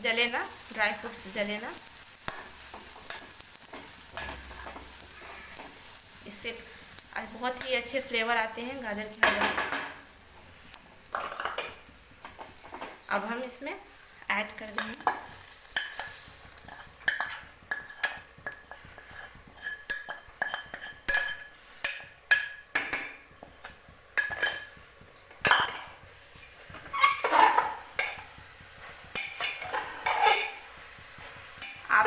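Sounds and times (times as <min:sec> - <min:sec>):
faint sizzle: 0:00.0 - 0:32.0
metal spoon scraping a pan: 0:00.2 - 0:13.2, 0:13.9 - 0:24.8, 0:25.5 - 0:32.0.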